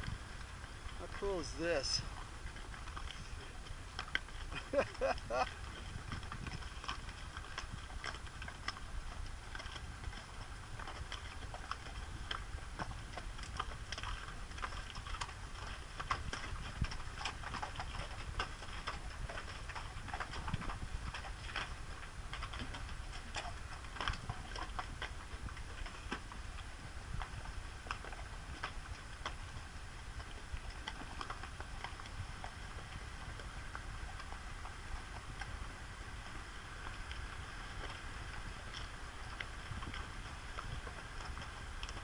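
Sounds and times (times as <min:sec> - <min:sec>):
horse hooves clopping on rocks: 0:00.0 - 0:42.0.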